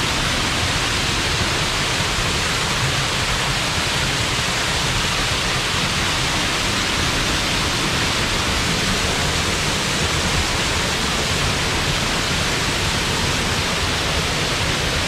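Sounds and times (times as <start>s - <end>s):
waterfall splashing into pool: 0.0s - 15.0s.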